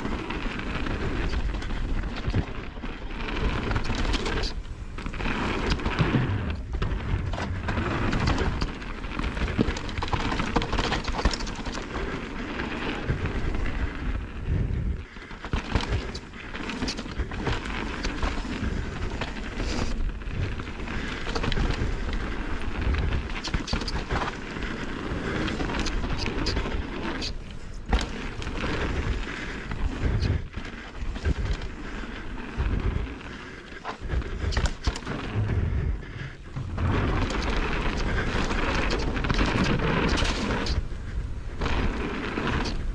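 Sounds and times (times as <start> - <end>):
bike rattling and knocking: 0.0 - 42.9
bike tyres rolling over dirt: 0.0 - 42.9
wind rumble on microphone: 0.0 - 42.9.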